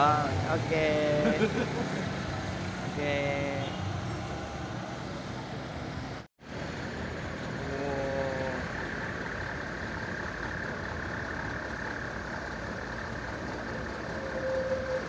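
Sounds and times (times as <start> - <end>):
truck engines rumbling: 0.0 - 15.0.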